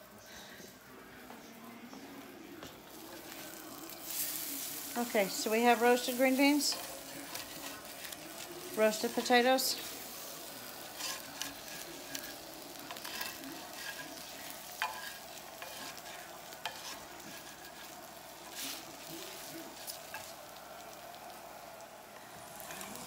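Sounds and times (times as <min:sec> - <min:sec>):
food sizzling in frying pan: 0:02.5 - 0:23.0.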